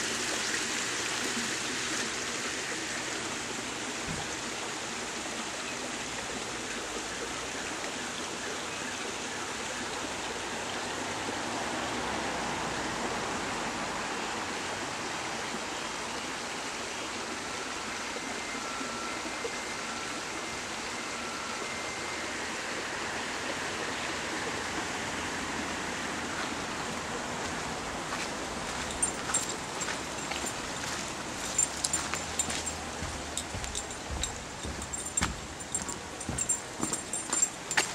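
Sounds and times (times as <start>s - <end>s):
creek running: 0.0s - 37.9s.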